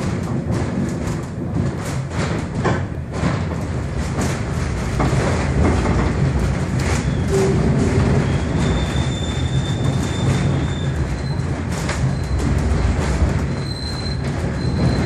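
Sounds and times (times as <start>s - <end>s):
train car rumbling: 0.0s - 15.0s
wheels clicking and car rattling: 0.0s - 15.0s.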